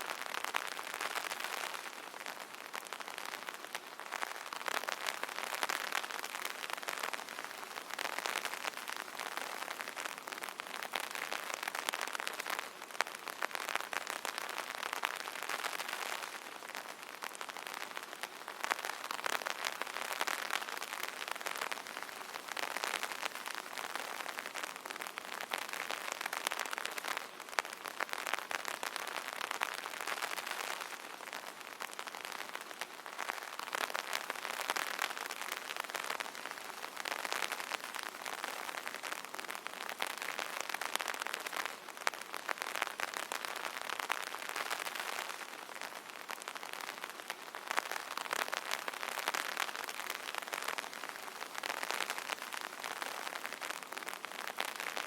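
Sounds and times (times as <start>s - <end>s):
rain pattering on an umbrella: 0.0s - 55.0s.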